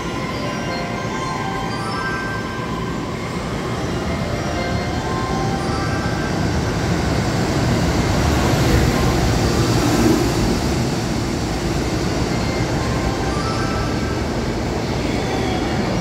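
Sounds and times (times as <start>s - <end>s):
electric locomotive motors: 0.0s - 16.0s
train wheels on rails: 2.6s - 16.0s.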